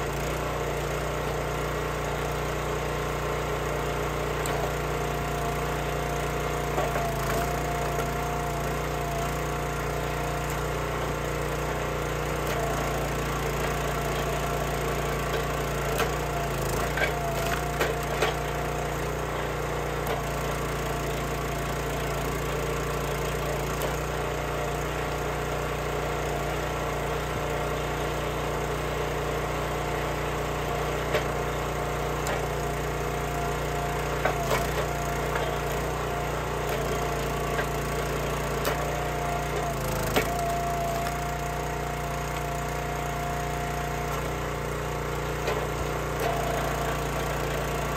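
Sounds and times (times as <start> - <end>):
small gas engine running: 0.0 - 47.9
wood cracking as logs split: 2.3 - 28.7, 29.4 - 47.9.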